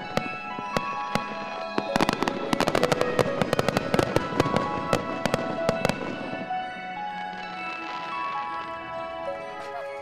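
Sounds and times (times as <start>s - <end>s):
fireworks popping and crackling: 0.0s - 9.0s
music with long held notes: 0.0s - 10.0s.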